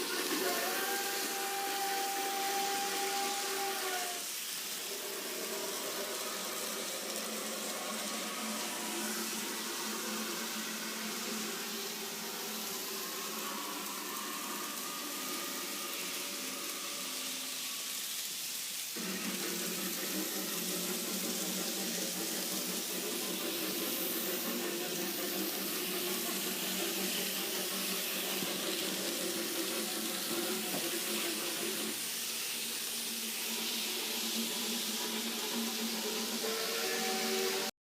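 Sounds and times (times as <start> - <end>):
train hissing rush: 0.0 - 37.8.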